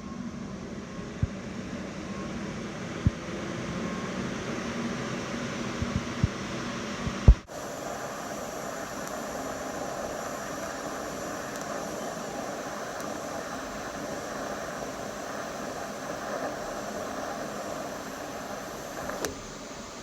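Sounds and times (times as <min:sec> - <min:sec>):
welding arc hissing: 0:03.9 - 0:20.0.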